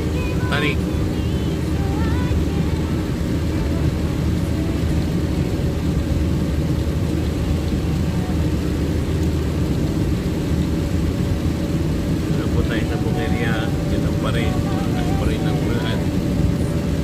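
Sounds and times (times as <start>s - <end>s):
engine and tyre rumble: 0.0s - 17.0s.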